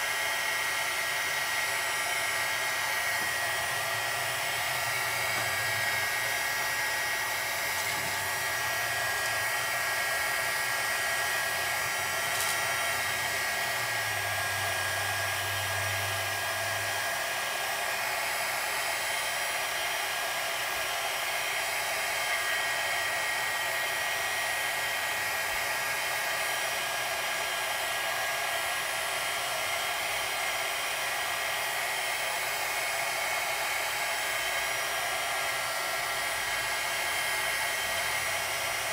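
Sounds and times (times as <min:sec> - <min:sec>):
fan motor whine: 0:00.0 - 0:38.9
heat gun air rush: 0:00.0 - 0:38.9.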